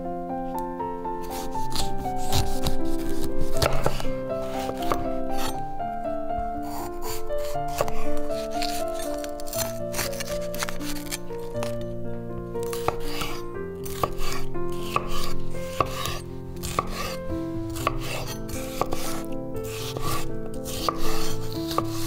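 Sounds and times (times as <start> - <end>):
background music with melody: 0.0 - 22.0
knife chopping on cutting board: 1.3 - 5.6, 6.6 - 11.7, 12.6 - 22.0.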